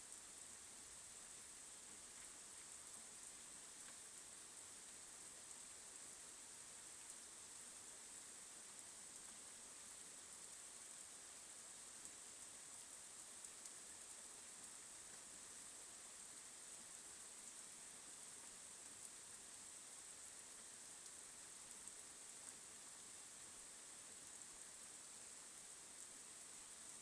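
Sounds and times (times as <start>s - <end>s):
faint rain hiss: 0.0s - 27.0s.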